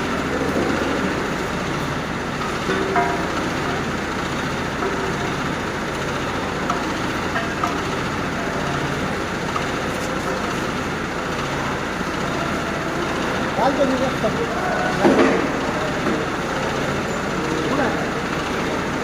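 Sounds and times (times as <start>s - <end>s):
heavy machinery rumbling: 0.0s - 19.0s.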